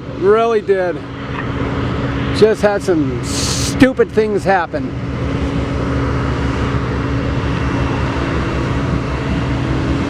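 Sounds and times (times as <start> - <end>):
diesel locomotive engine running: 0.0 - 10.0.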